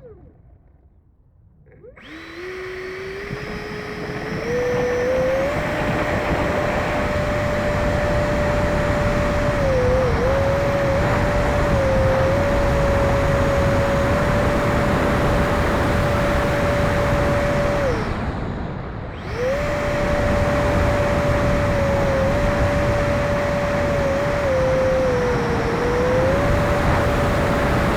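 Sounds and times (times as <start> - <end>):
electric ducted fan whining: 1.8 - 27.9.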